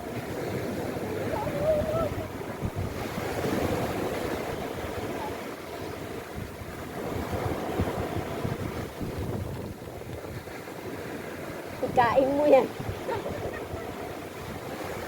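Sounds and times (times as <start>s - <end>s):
sea waves on the shore: 0.0s - 15.0s
wind buffeting the microphone: 0.0s - 15.0s.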